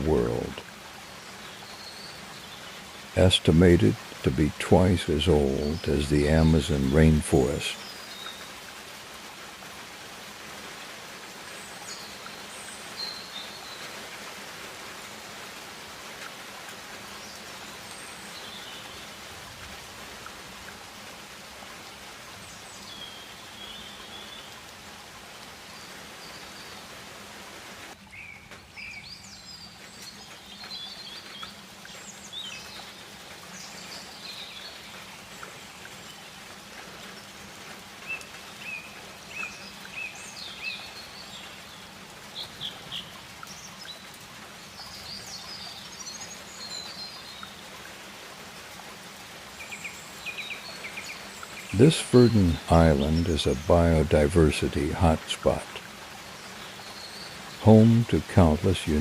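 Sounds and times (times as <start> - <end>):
rainforest hiss: 0.0 - 59.0.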